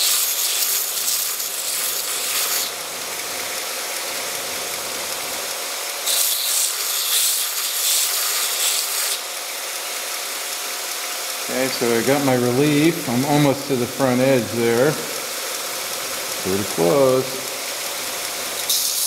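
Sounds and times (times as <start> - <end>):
belt grinder running with whine: 0.0 - 19.0
drill bit rasping on abrasive belt: 0.0 - 19.0.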